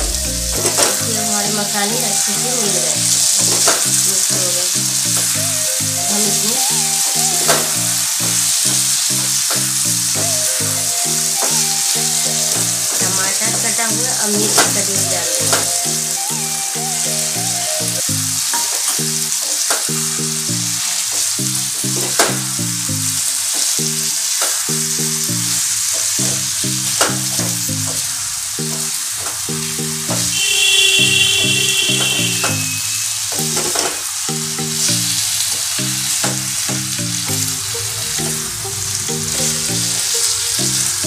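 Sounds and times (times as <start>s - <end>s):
background music: 0.0s - 41.0s
vegetables sizzling in oil: 0.1s - 41.0s.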